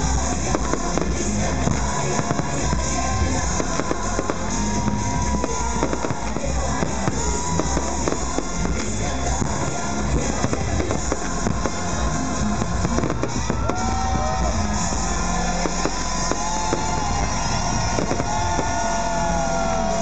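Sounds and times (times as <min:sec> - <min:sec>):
fireworks bangs and crackles: 0:00.0 - 0:20.0
loud music from sound system: 0:00.0 - 0:20.0.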